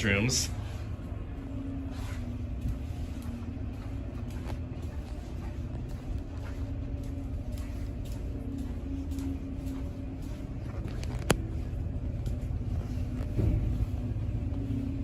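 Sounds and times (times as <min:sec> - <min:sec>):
low mechanical rumble: 0:00.0 - 0:15.0
steady hum: 0:00.0 - 0:15.0.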